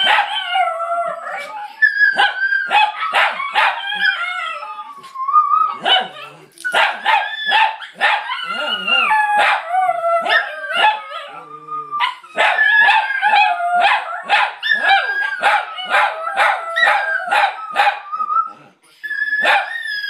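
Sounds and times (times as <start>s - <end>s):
dogs yipping and barking: 0.0s - 20.0s
small dogs howling: 0.0s - 20.0s.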